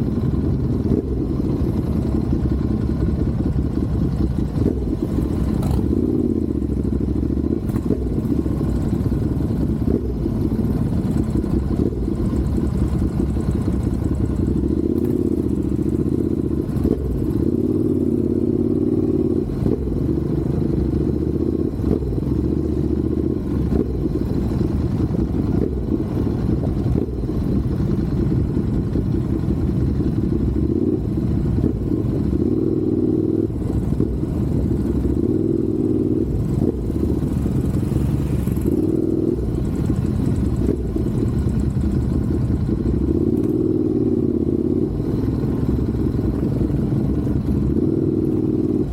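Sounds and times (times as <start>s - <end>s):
continuous low rumble: 0.0s - 48.9s
motorcycle engine running: 0.0s - 48.9s.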